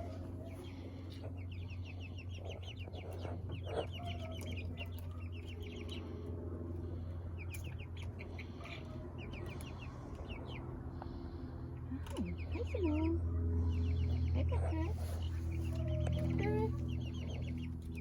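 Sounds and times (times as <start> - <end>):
steady low hum: 0.0 - 18.0
young chickens peeping: 0.0 - 18.0.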